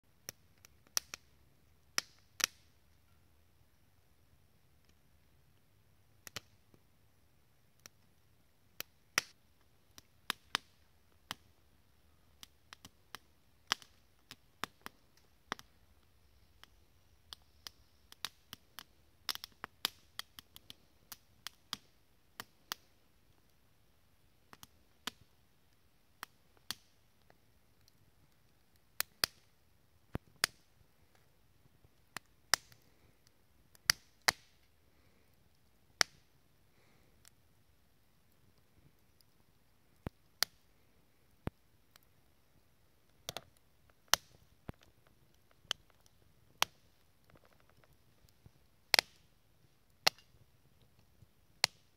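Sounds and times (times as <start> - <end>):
wood fire crackling: 0.1 - 51.9.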